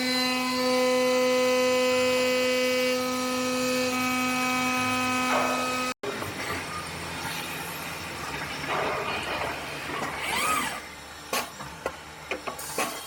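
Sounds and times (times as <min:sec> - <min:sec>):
machine whine: 0:00.0 - 0:11.3.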